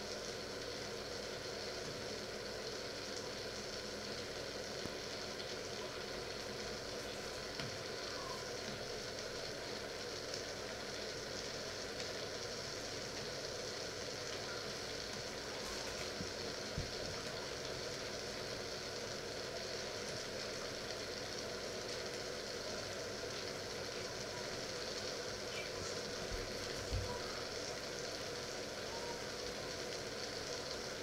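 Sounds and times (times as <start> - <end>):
pot of water hissing on hob: 0.0 - 31.0.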